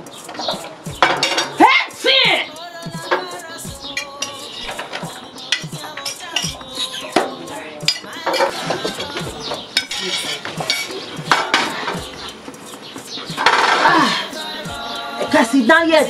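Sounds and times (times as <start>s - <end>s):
tongs clinking on plates: 0.1s - 15.7s
tongs scraping foil tray: 2.5s - 15.7s.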